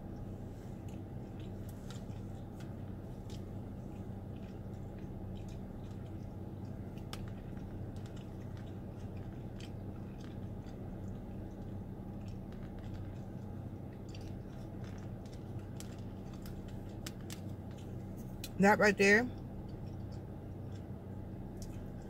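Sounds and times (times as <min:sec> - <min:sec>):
person chewing food: 0:00.0 - 0:18.6, 0:19.4 - 0:22.0
steady low hum: 0:00.0 - 0:22.0.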